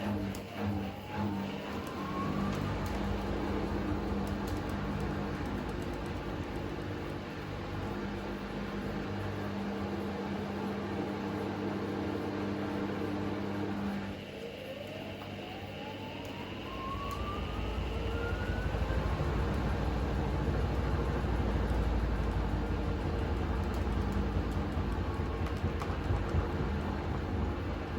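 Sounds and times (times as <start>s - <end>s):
low rumble of spinning drum: 0.0s - 14.1s, 16.8s - 27.9s
motor whine rising: 0.0s - 27.9s
washing machine humming: 0.0s - 27.9s.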